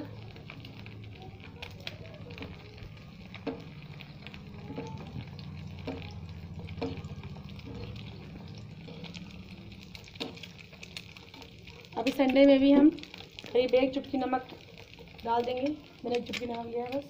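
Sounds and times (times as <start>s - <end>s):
egg sizzling in a pan: 0.0s - 17.0s.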